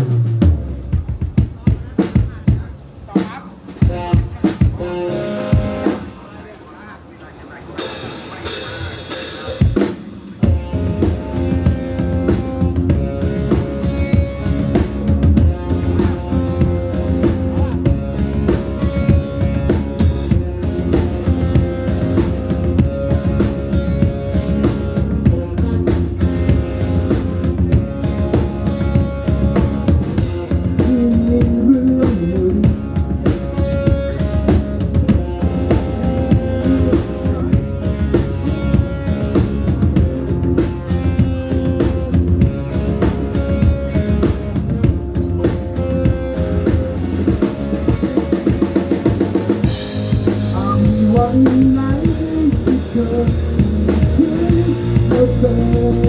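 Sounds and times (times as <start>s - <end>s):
drum kit beating: 0.0s - 6.3s, 7.8s - 56.0s
rock band playing: 0.0s - 56.0s.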